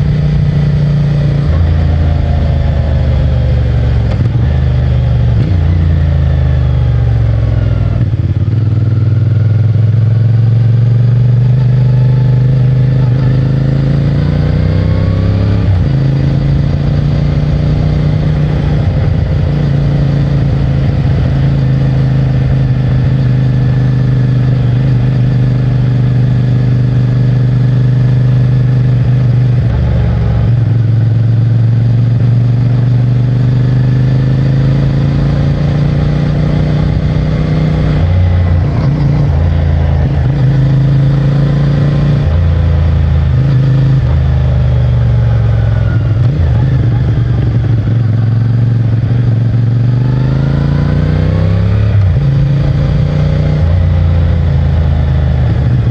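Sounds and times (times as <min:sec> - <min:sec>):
motorcycle engine shifting gears: 0:00.0 - 0:55.9.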